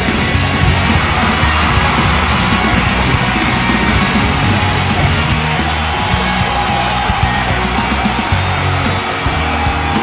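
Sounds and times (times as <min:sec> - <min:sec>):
bass line: 0:00.0 - 0:10.0
loud rock music: 0:00.0 - 0:10.0.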